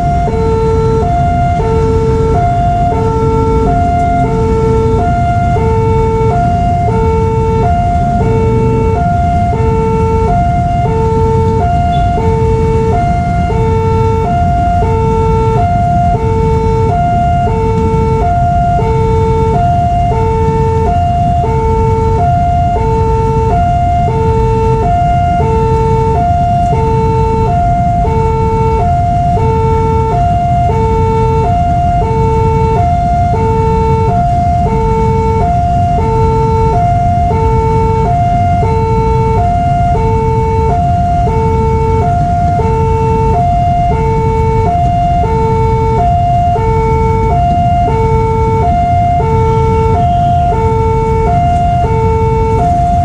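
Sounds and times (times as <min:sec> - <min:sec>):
level crossing two-tone alarm: 0:00.0 - 0:53.0.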